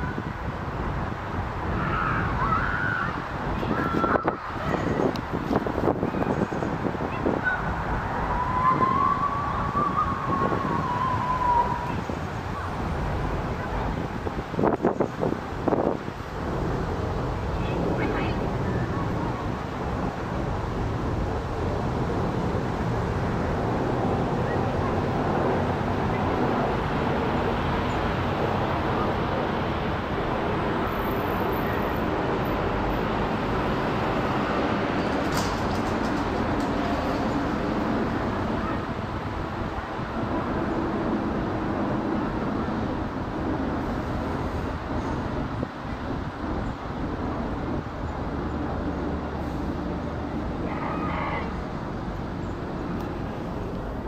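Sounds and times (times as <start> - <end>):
jet airliner rumble overhead: 0.0 - 54.0.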